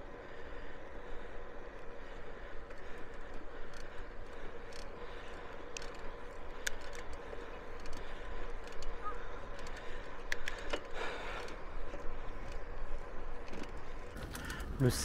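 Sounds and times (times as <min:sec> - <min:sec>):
faint steady hum: 0:00.0 - 0:15.0
light clicks and ticks: 0:02.5 - 0:15.0.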